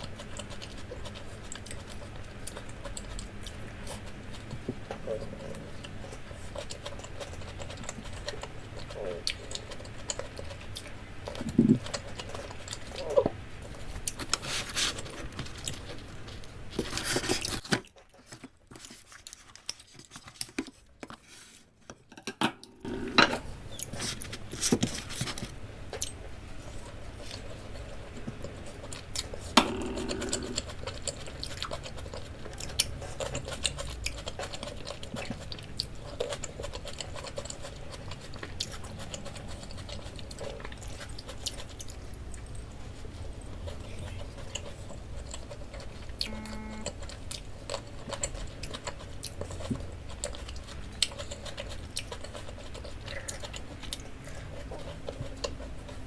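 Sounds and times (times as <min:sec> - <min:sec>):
person chewing: 0:00.0 - 0:21.6, 0:22.6 - 0:56.0.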